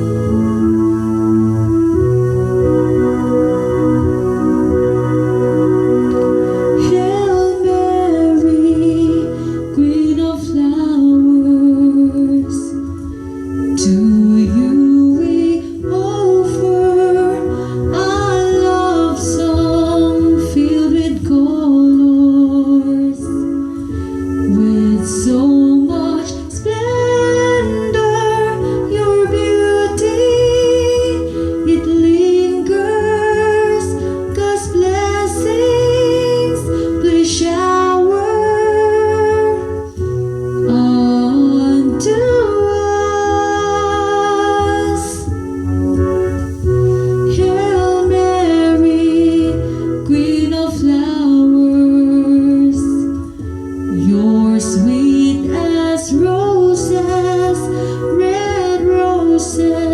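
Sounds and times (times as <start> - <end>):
person singing with vibrato: 0.0 - 59.9
steady bass: 0.0 - 59.9.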